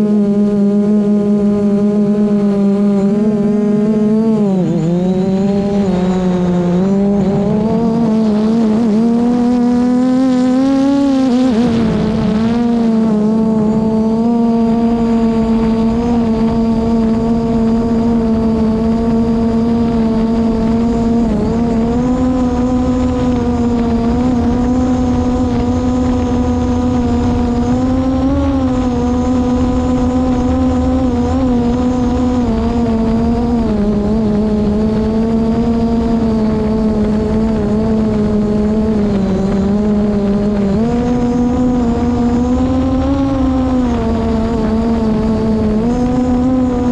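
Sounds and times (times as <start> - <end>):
drone propellers humming: 0.0 - 46.9
wind rumble on microphone: 0.0 - 46.9.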